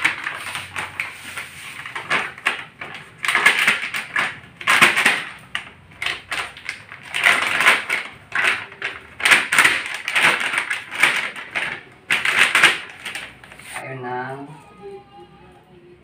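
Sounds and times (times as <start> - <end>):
plastic pouch crinkling: 0.0 - 13.8.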